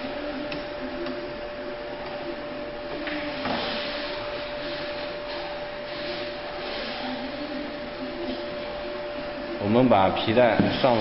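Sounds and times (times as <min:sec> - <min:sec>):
constant hum tone: 0:00.0 - 0:11.0.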